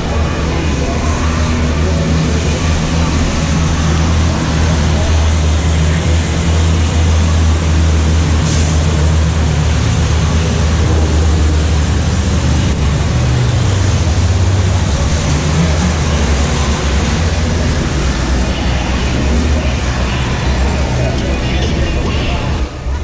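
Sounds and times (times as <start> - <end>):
diesel truck engines droning: 0.0 - 23.0.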